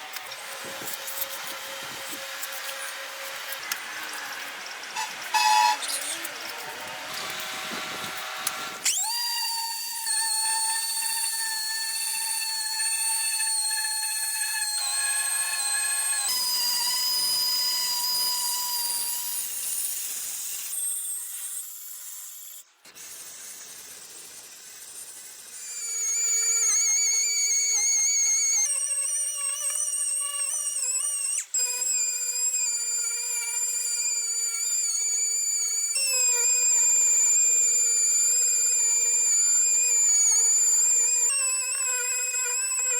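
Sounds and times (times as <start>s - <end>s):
electric power tool whining: 0.0s - 42.9s.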